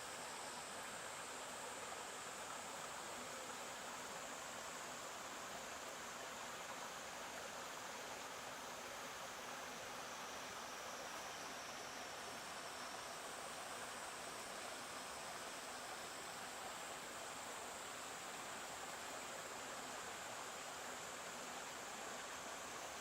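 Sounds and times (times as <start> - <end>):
faint high whine: 0.0 - 23.0
stream water flowing: 0.0 - 23.0.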